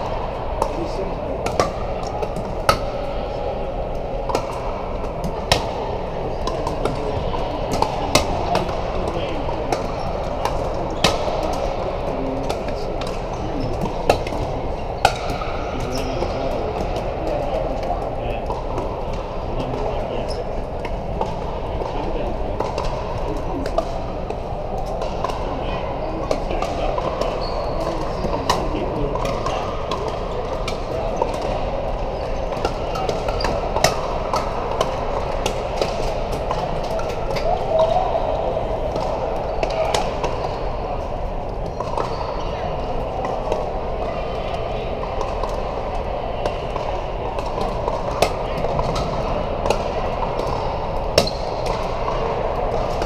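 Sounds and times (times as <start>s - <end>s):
din of voices in a hall: 0.0s - 53.0s.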